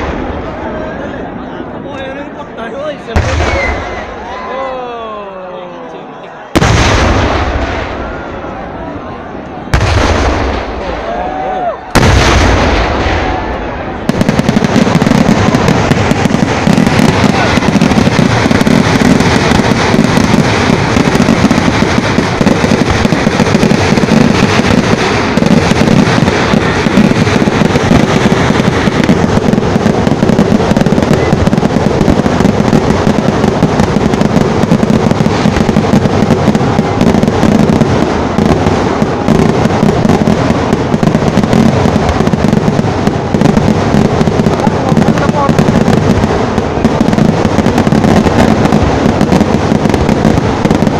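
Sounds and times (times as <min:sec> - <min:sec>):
fireworks crackling: 0:00.0 - 0:01.2, 0:01.8 - 0:50.9.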